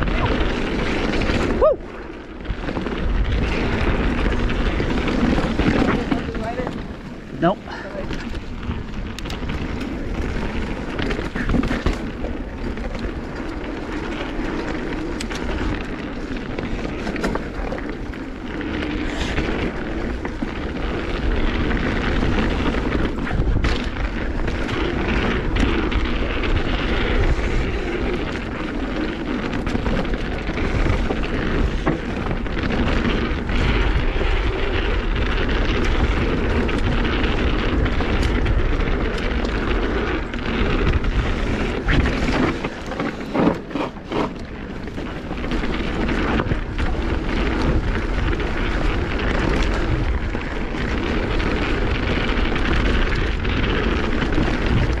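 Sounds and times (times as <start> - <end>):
bike tyres and frame rumbling: 0.0 - 55.0
wind rushing over microphone: 0.0 - 55.0.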